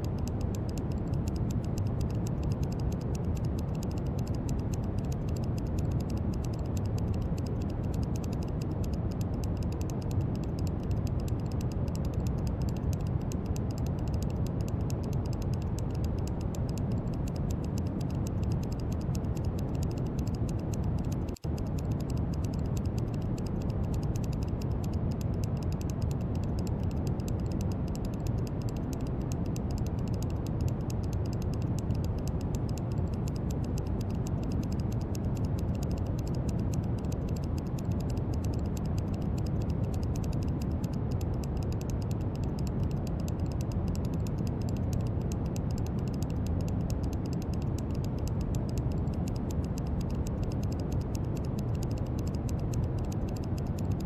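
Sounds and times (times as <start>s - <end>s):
deep brown noise rumble: 0.0s - 54.0s
faint fast clicking: 0.0s - 54.0s.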